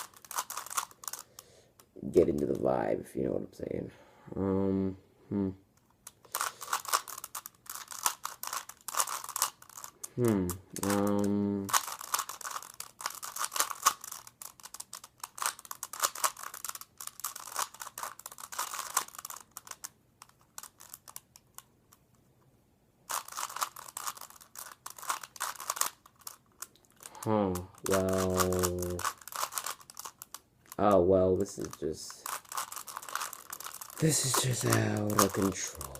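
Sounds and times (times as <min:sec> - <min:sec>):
puzzle cube clicking: 0:00.0 - 0:02.6, 0:06.0 - 0:21.7, 0:23.1 - 0:35.9.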